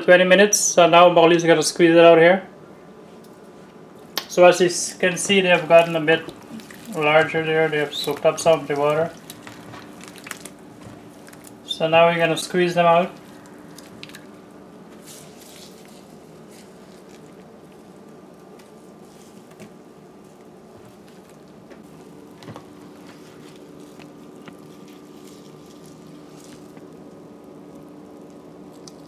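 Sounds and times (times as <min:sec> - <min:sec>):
wet squishing: 0:05.0 - 0:29.0.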